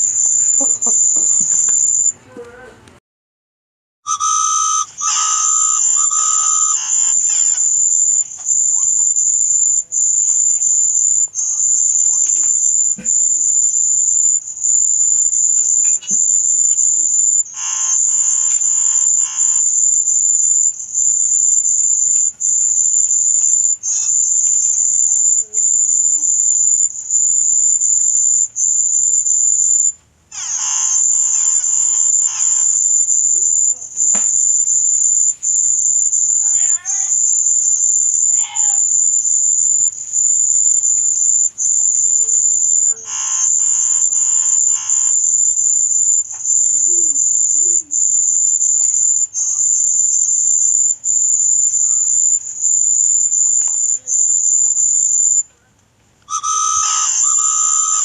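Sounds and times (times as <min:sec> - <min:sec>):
high-pitched buzzing tone: 0:00.0 - 0:02.2, 0:04.1 - 0:55.5, 0:56.3 - 0:58.0
rapid pulsing chirp: 0:00.0 - 0:02.2, 0:04.1 - 0:55.5, 0:56.3 - 0:58.0.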